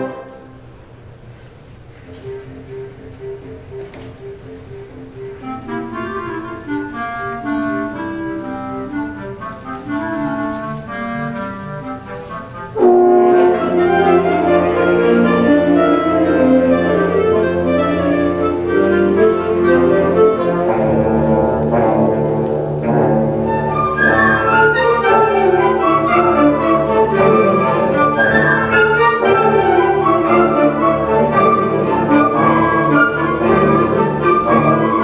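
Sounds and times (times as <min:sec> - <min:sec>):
brass: 0:00.0 - 0:00.8, 0:05.4 - 0:35.0
concert band playing: 0:01.9 - 0:35.0.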